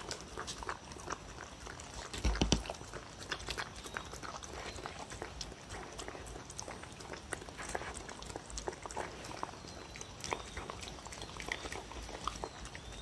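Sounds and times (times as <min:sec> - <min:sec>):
dog eating wet food: 0:00.0 - 0:13.0.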